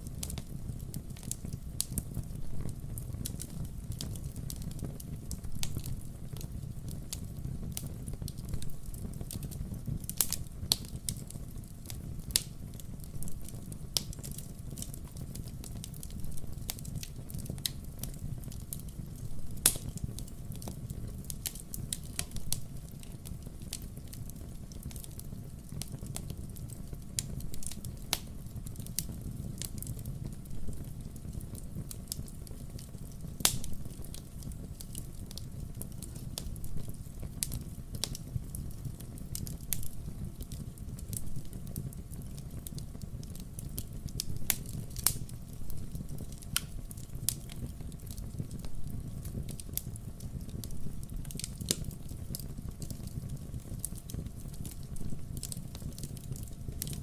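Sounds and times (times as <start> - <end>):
firewood crackling and popping: 0.0 - 57.0
low fire rumble: 0.0 - 57.0.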